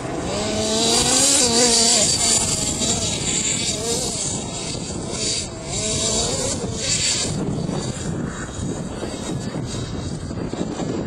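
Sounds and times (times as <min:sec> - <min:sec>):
small engine whine: 0:00.0 - 0:11.0.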